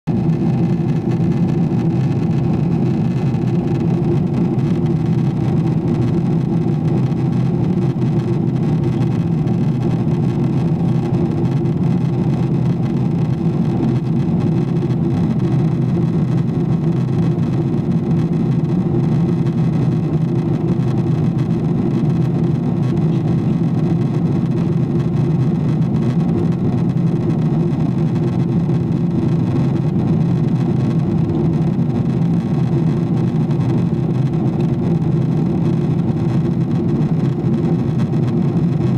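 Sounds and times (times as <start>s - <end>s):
airplane cabin engine drone: 0.1s - 38.9s.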